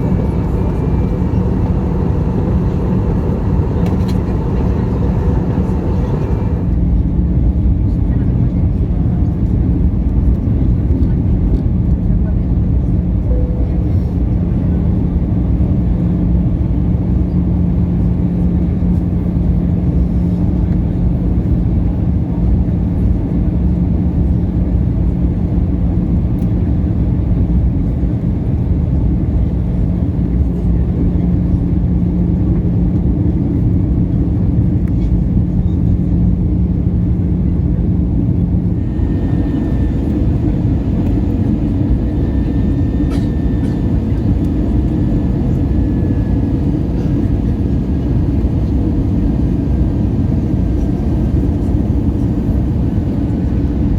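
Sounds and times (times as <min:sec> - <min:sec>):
low cabin hum: 0:00.0 - 0:09.6, 0:10.2 - 0:53.9
engine and airflow rush: 0:00.0 - 0:53.9.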